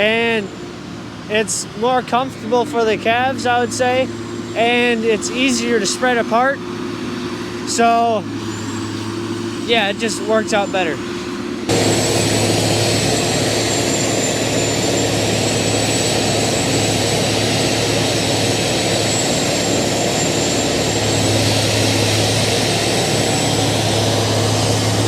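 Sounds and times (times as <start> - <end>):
tub grinder engine running: 0.0 - 25.0.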